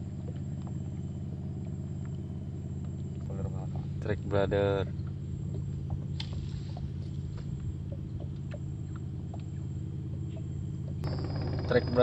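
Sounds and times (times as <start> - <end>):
low motor drone: 0.0 - 12.0.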